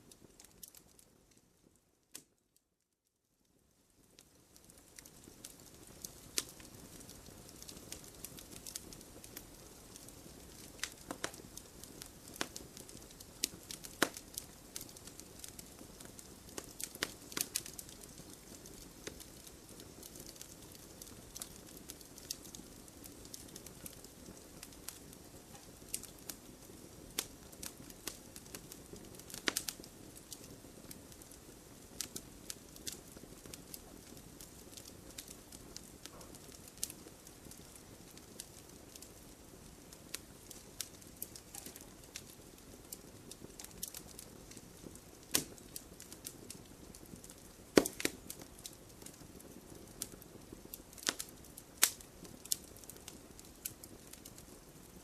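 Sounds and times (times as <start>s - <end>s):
campfire crackling and popping: 0.0s - 2.4s, 4.0s - 55.0s.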